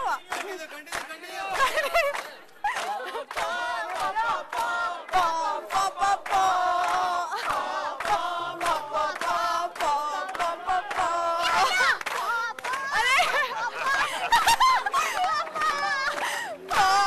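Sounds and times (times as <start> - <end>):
group singing in chorus: 3.0 - 17.0.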